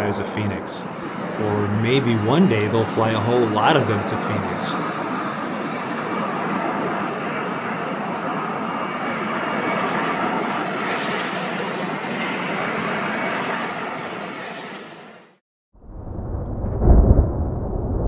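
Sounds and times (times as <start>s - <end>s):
jet engines roaring: 0.0s - 15.3s.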